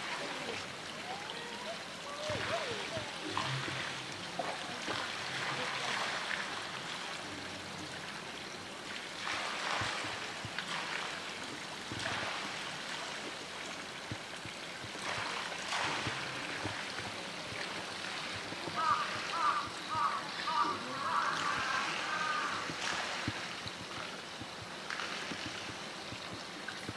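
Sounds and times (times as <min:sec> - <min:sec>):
water rushing: 0:00.0 - 0:26.9.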